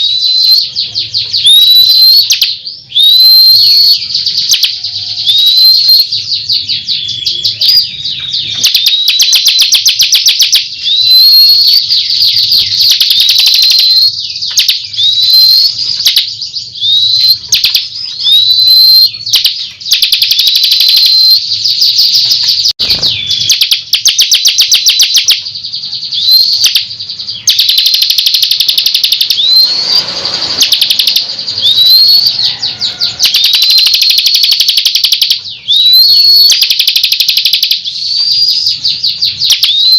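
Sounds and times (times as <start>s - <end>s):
bird trilling and whistling: 0.0s - 39.9s.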